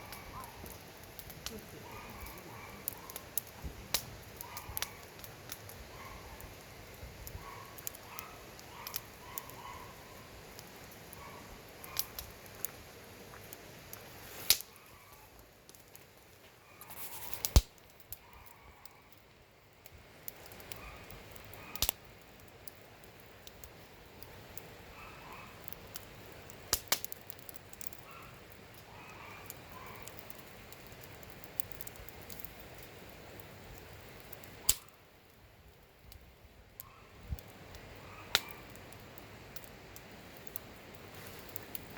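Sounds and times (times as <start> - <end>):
campfire crackling: 0.0 - 41.9
fire popping and snapping: 0.0 - 41.9.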